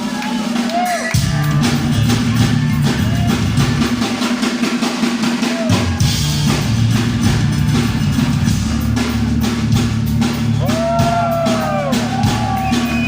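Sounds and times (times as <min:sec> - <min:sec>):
heavy metal band playing: 0:00.0 - 0:13.0
pounding drums and percussion: 0:00.0 - 0:13.0.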